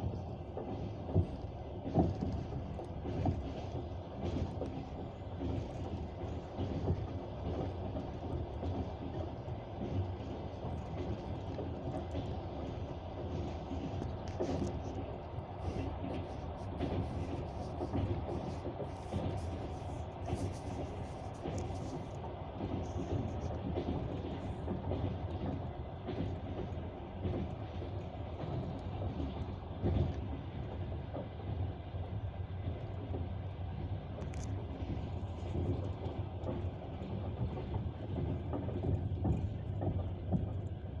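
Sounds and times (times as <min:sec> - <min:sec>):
train rumble: 0:00.0 - 0:41.0.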